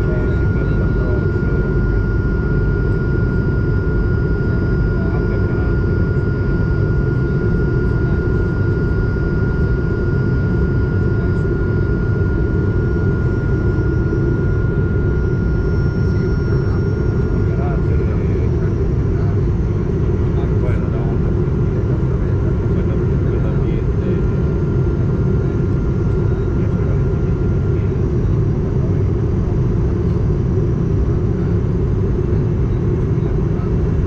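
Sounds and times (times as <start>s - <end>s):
airplane cabin jet engine rumble: 0.0s - 34.0s.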